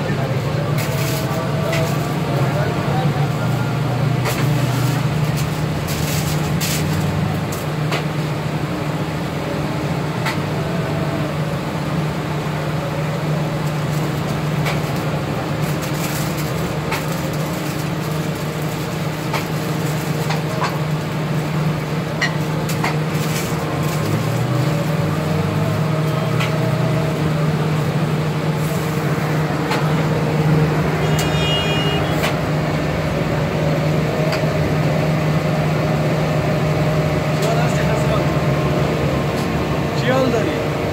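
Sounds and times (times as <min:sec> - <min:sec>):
street traffic noise: 0:00.0 - 0:40.9.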